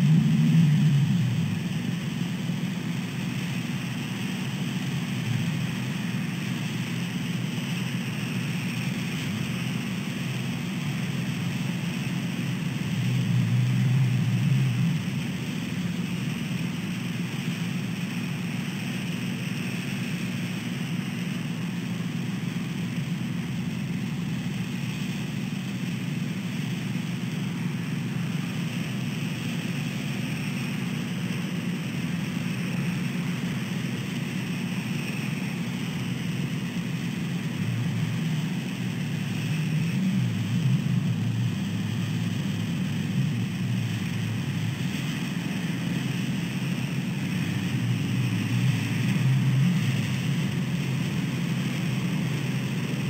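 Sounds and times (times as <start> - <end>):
road traffic drone: 0.0 - 53.0.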